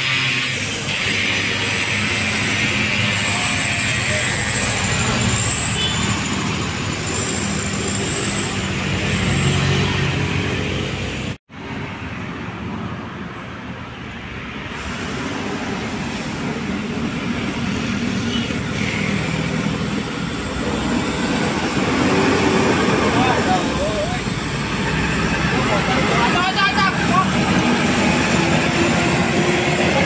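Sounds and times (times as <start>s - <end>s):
heavy vehicle engines climbing: 0.0s - 11.4s, 14.7s - 30.0s
tyre and traffic noise: 0.0s - 30.0s.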